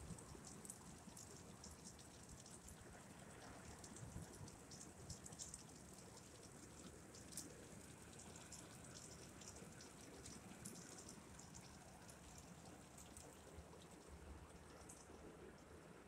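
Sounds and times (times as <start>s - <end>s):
rain on grass and trees: 0.0s - 15.0s.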